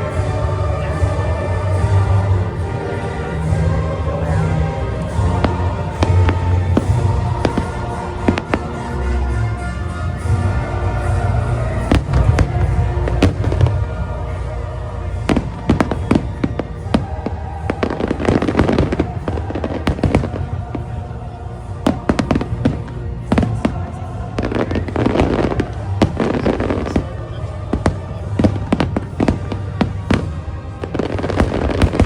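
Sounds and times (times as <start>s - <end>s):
fireworks bangs and crackles: 0.0s - 32.0s
music: 0.0s - 32.0s.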